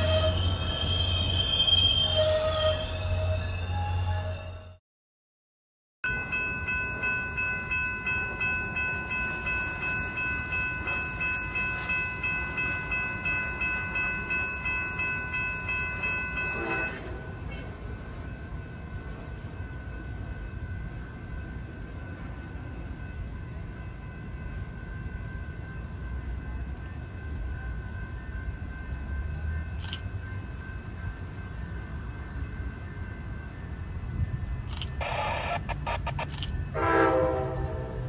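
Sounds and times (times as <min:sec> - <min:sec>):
crossing warning bell ringing: 0:00.0 - 0:04.8, 0:06.0 - 0:38.0.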